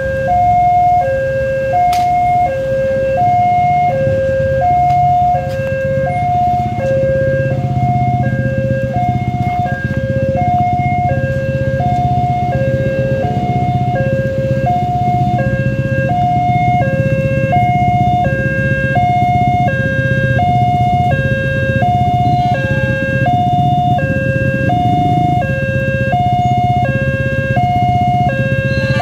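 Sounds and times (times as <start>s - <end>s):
level crossing alarm two-tone: 0.0s - 29.0s.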